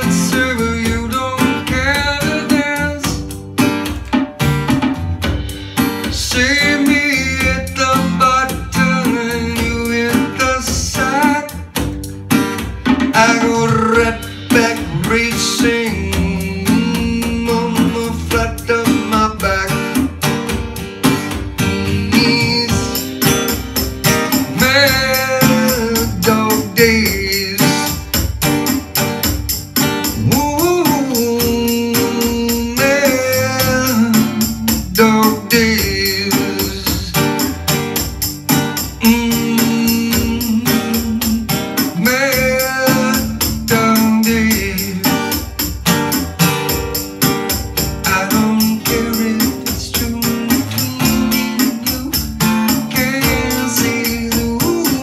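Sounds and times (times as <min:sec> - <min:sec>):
man singing: 0:00.0 - 0:03.5, 0:05.9 - 0:12.0, 0:12.9 - 0:28.4, 0:29.8 - 0:46.0, 0:47.2 - 0:55.0
high percussion rattle: 0:00.0 - 0:55.0
strummed acoustic guitar: 0:00.0 - 0:55.0.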